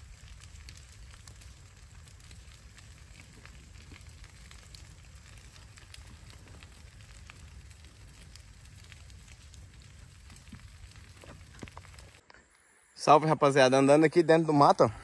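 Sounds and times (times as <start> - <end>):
low fire rumble: 0.0 - 12.2
brush fire crackling and popping: 0.0 - 12.3.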